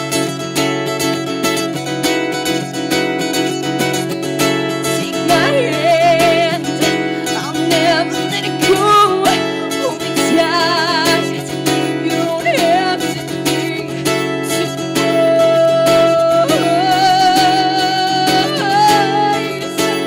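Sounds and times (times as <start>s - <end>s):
strummed acoustic guitar: 0.0s - 20.0s
woman singing folk song: 0.0s - 20.0s.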